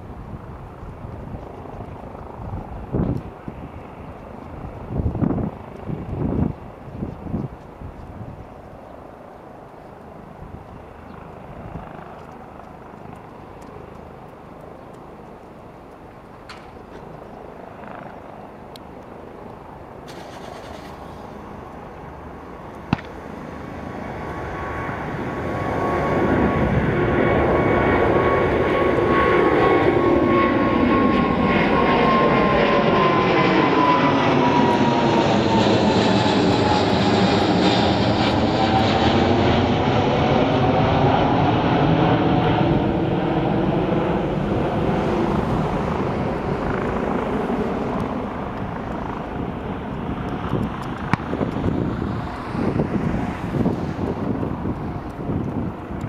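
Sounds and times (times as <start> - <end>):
jet engines at takeoff: 0.0 - 56.0.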